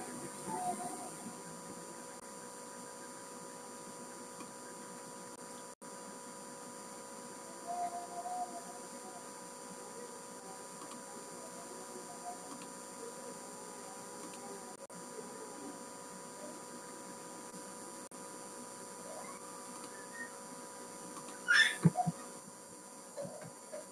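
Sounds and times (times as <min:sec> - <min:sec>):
electrical hum: 0:00.0 - 0:23.9.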